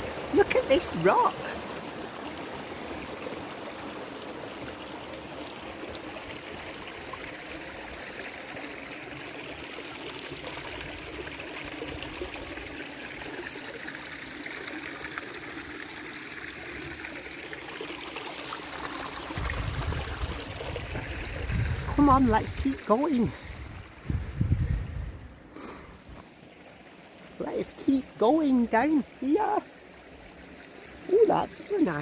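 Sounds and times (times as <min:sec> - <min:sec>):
stream trickling over rocks: 0:00.0 - 0:32.0.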